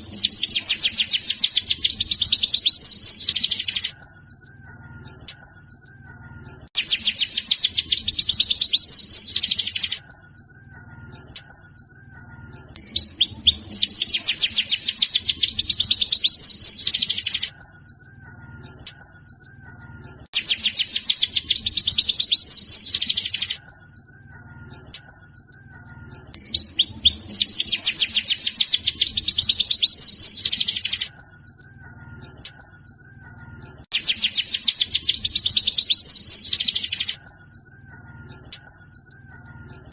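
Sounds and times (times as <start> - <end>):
rapid high bird twittering: 0.0 - 39.9.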